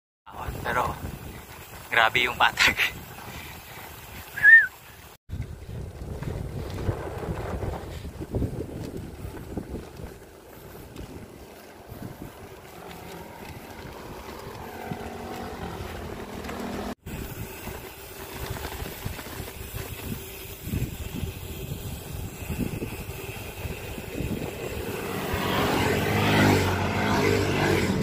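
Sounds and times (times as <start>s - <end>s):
rumbling road noise: 0.3s - 28.0s
wind buffeting microphone: 0.3s - 28.0s.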